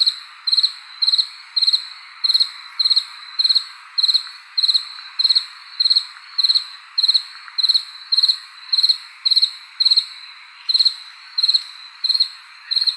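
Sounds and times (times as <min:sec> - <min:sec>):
cricket chirping: 0:00.0 - 0:12.9
faint background hiss: 0:00.0 - 0:12.9.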